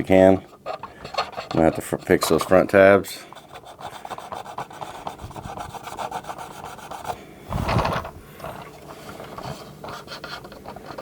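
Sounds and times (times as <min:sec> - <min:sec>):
cotton swab rubbing plastic: 0:00.0 - 0:11.0.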